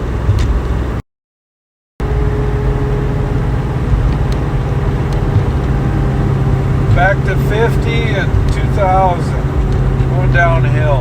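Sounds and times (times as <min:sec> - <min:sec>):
car engine cruising: 0:00.0 - 0:01.0, 0:02.0 - 0:11.0
road noise: 0:00.0 - 0:01.0, 0:02.0 - 0:11.0
steady droning tone: 0:02.0 - 0:11.0.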